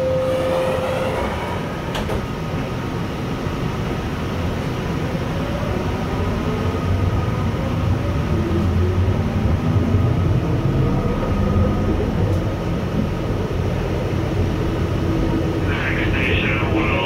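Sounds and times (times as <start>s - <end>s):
rumble of wheels on rail: 0.0s - 17.0s.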